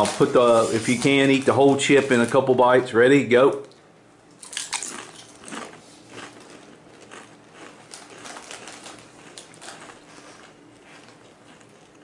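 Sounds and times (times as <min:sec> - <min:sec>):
crunching tortilla chips: 0:00.0 - 0:02.4, 0:04.4 - 0:12.0.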